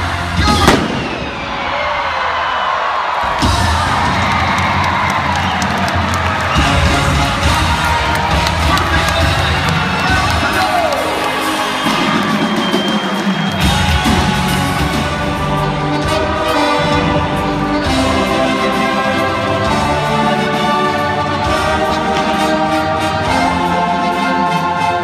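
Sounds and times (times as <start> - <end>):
orchestral music with brass: 0.0 - 1.0, 3.4 - 25.0.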